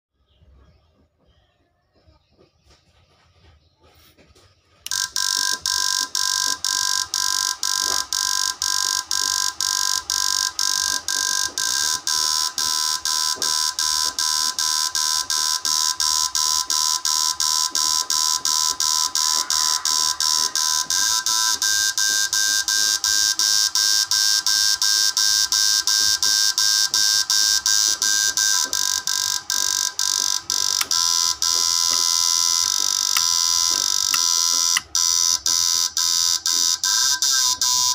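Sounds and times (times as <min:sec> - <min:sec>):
power inverter buzzing whine: 0:04.4 - 0:37.9.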